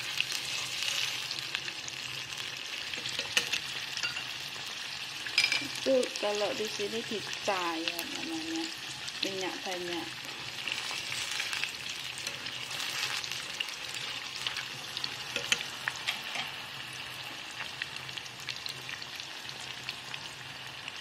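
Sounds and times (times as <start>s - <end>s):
oil sizzling and crackling: 0.0s - 21.0s.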